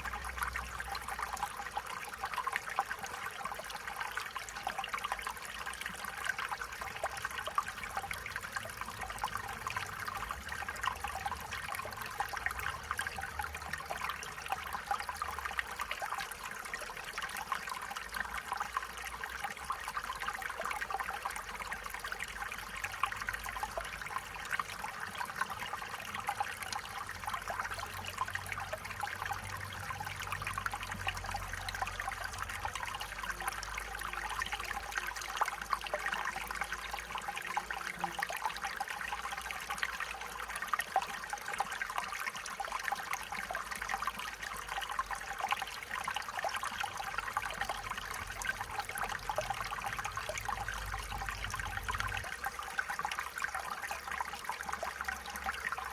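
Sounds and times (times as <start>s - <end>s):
stream trickling over stones: 0.0s - 55.9s.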